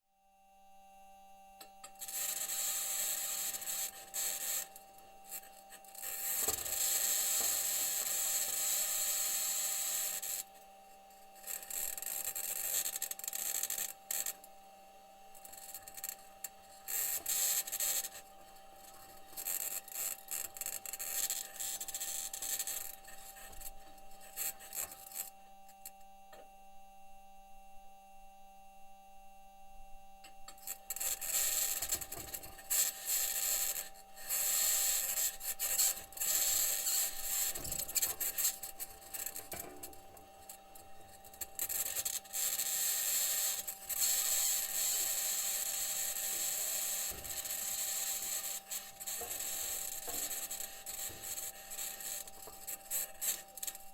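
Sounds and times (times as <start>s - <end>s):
faint hum: 0.4s - 53.9s.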